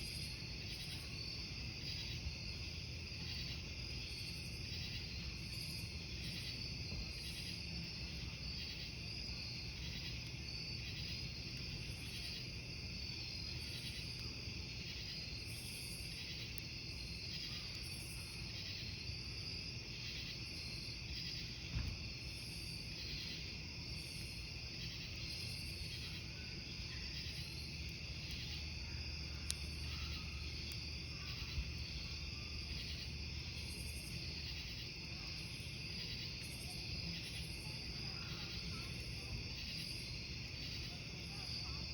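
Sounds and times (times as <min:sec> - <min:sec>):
campfire burning: 0:00.0 - 0:41.9
crickets chirping: 0:00.0 - 0:41.9.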